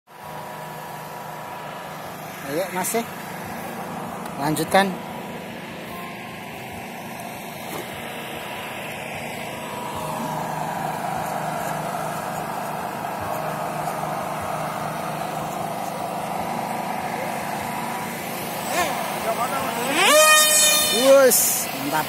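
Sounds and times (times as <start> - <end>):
model plane electric motor whine: 0.2 - 22.0.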